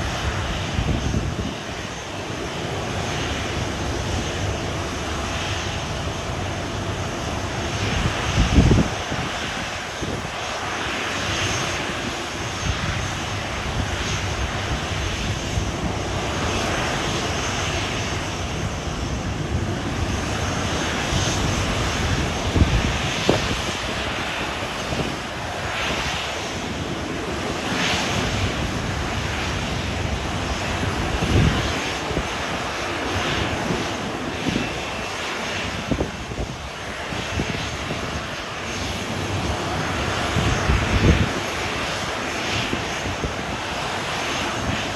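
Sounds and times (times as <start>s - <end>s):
jet engines rushing: 0.0s - 44.9s.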